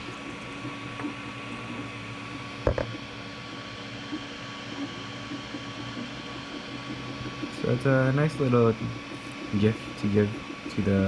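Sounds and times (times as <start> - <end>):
fan-like machine hum: 0.0 - 11.0.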